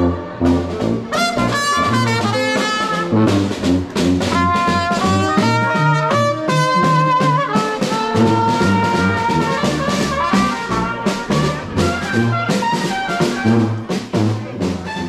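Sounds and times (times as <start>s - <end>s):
trumpet melody: 0.0s - 15.0s
snare drum beat: 0.6s - 15.0s.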